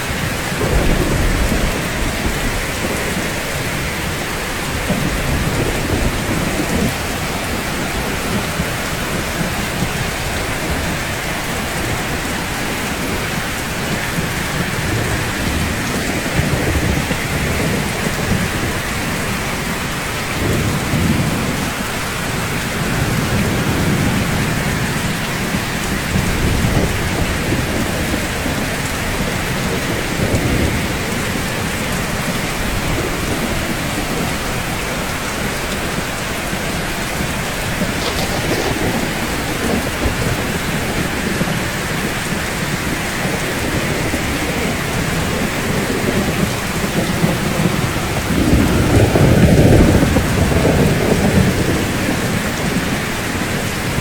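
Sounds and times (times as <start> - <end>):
rain falling on rooftops: 0.0 - 54.0
thunder rumbling: 0.0 - 54.0.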